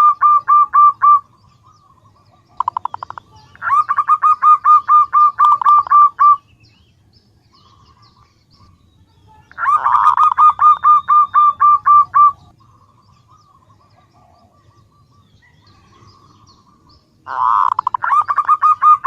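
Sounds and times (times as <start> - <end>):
dove calling short notes: 0.0 - 6.6, 7.5 - 14.5, 15.4 - 19.0.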